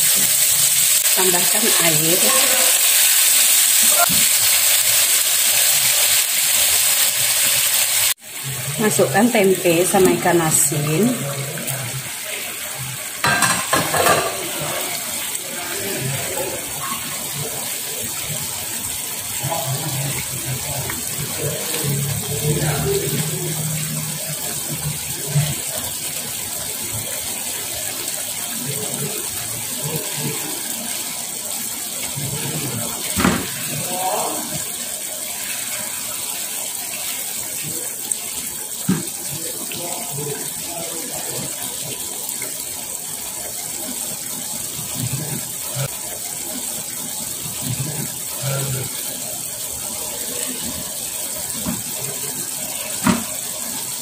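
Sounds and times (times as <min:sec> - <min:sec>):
sauce simmering in frying pan: 0:00.0 - 0:54.0.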